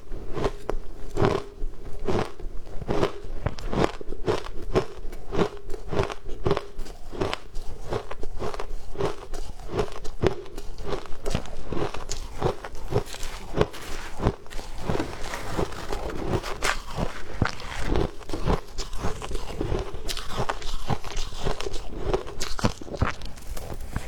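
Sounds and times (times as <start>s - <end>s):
person crunching ice: 0.3s - 24.0s.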